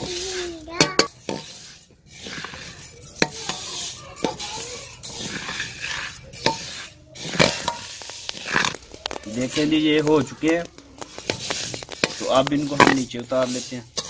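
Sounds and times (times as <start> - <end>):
grains scraping over metal pan: 0.0 - 14.0.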